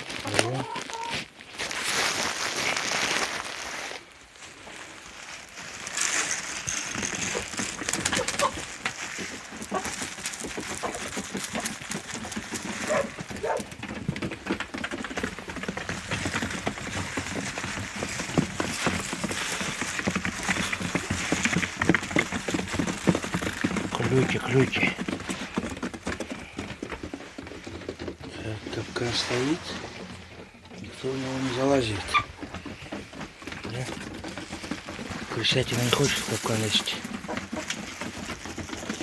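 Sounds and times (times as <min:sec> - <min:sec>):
hens pecking grain: 0:00.0 - 0:39.0
hens clucking: 0:00.1 - 0:01.3, 0:07.2 - 0:39.0.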